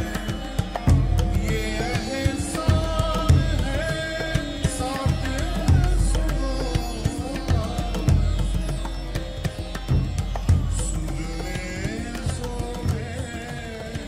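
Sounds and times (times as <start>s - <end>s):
repeated drum strokes: 0.0s - 13.7s.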